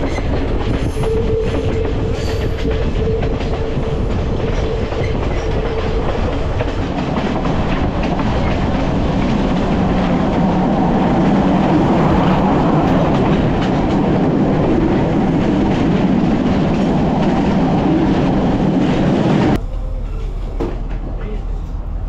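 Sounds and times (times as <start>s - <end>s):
wheels clacking over rail joints: 0.0s - 21.6s
train wheels rumbling on rails: 0.0s - 22.0s.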